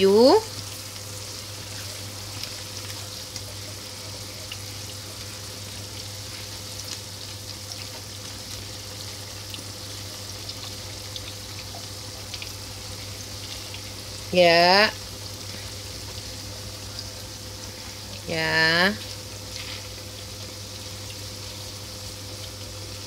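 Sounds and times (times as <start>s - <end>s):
eggplant sizzling in oil: 0.0s - 23.0s
low steady hum: 0.0s - 23.0s.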